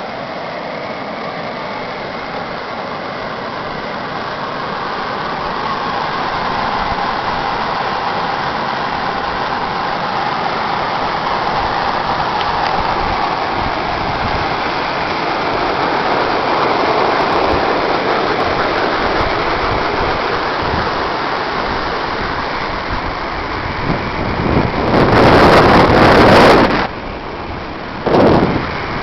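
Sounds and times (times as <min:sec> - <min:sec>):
geyser erupting: 0:00.0 - 0:29.0
water noise: 0:00.0 - 0:29.0
wind: 0:00.0 - 0:29.0.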